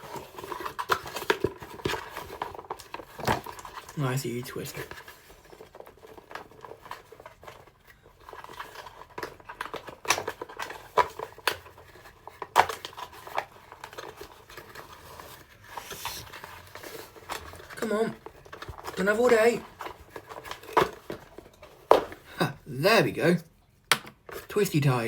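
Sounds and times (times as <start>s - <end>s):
plastic packaging rustling: 0.0s - 25.0s.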